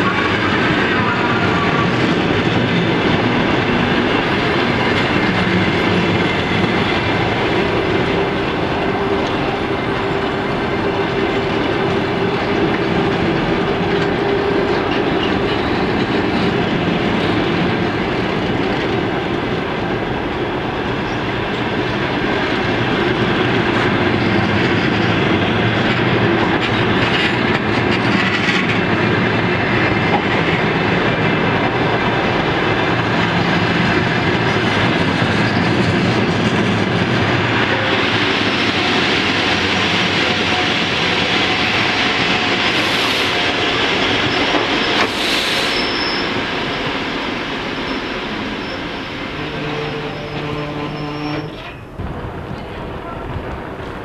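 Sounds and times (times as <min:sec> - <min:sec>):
train coaches rolling past: 0:00.0 - 0:54.0.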